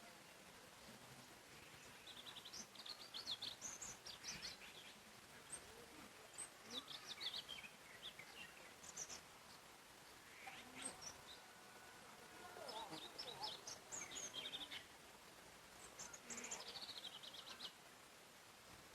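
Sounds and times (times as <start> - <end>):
faint forest hiss: 0.0 - 18.9
songbirds chirping: 0.0 - 18.9.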